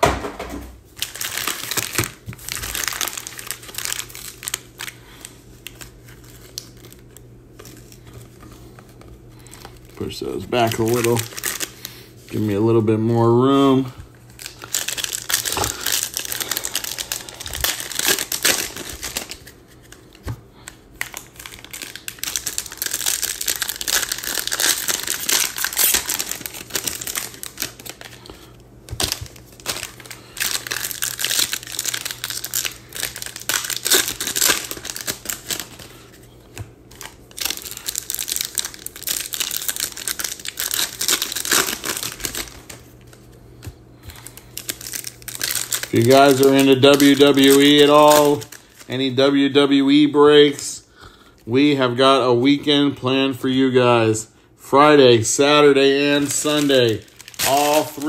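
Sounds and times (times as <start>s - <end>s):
card pack wrappers crinkling and tearing: 0.9s - 52.0s, 55.1s - 58.0s.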